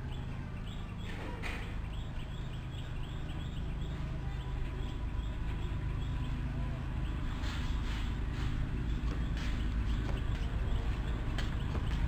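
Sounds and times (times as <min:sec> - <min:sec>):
bird chirping: 0:00.0 - 0:12.0
distant diesel locomotive rumble: 0:00.0 - 0:12.0.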